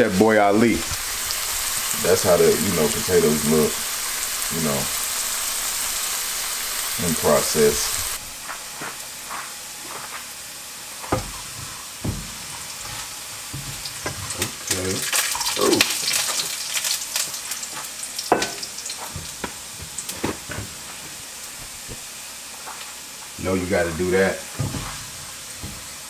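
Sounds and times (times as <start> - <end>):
potatoes sizzling in a frying pan: 0.0 - 26.0.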